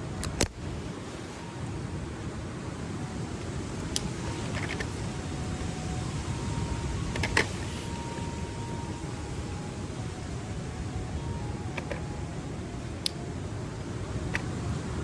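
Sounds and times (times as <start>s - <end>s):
campfire burning: 0.0s - 15.0s.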